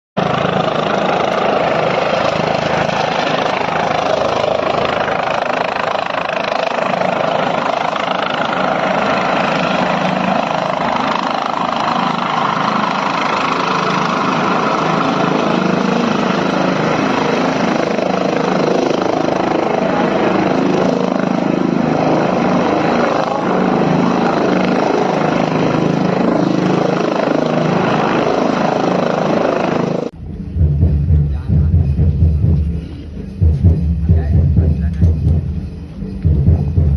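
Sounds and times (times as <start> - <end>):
helicopter engine and rotor: 0.2 - 30.2.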